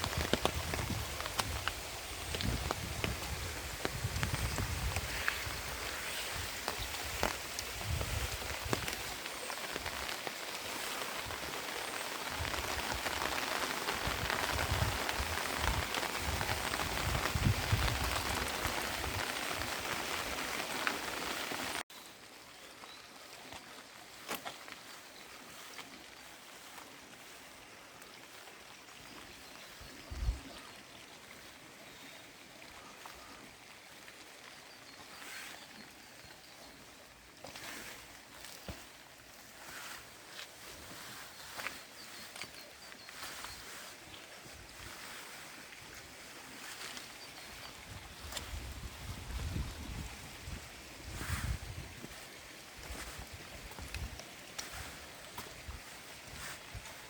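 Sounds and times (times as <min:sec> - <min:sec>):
rain falling: 0:00.0 - 0:21.9, 0:32.4 - 0:57.0.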